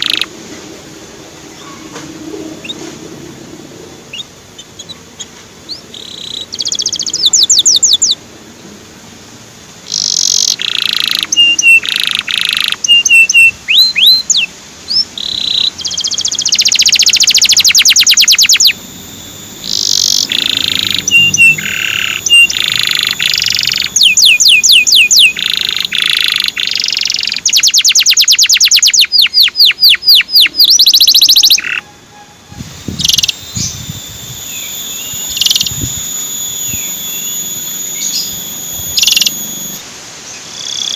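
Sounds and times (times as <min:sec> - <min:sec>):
canary singing trills: 0:00.0 - 0:00.3, 0:01.5 - 0:03.0, 0:04.0 - 0:08.2, 0:09.8 - 0:40.9.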